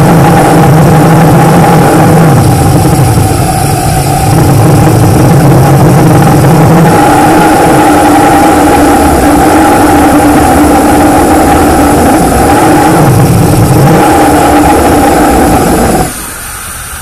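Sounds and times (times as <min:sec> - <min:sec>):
ramjet engine droning: 0:00.0 - 0:17.0.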